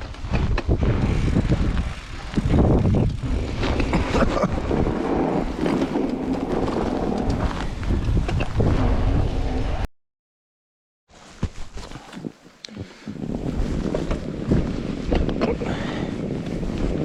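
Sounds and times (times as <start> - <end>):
bike riding through snow: 0.0 - 9.8, 11.1 - 17.0
wind buffeting microphone: 0.0 - 9.8, 13.1 - 17.0.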